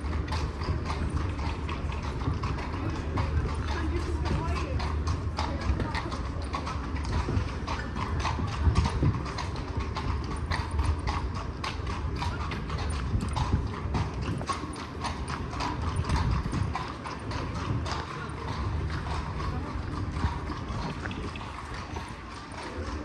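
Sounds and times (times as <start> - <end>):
carriage wheels rumbling: 0.0 - 23.0
hooves clip-clopping on cobblestones: 0.0 - 23.0.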